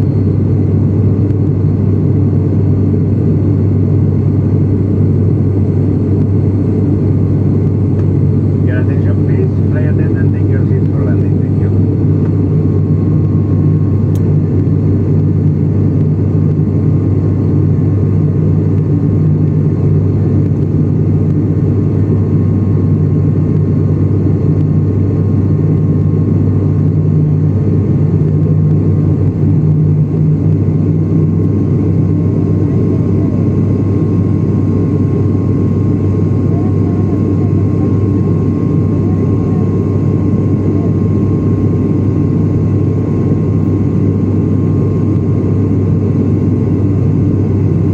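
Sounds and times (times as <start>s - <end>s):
airliner engine drone in cabin: 0.0s - 47.9s
thin steady whine: 0.0s - 47.9s.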